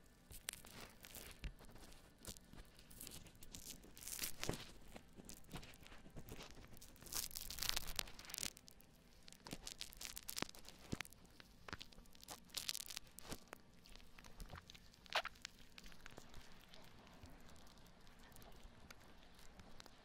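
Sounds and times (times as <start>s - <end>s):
foam lather squished by hand: 0.4s - 8.6s, 9.3s - 20.0s.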